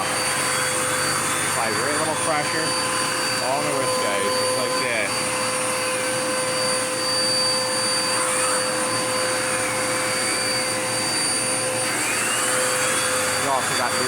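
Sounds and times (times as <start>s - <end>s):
vacuum cleaner whining: 0.0s - 14.0s.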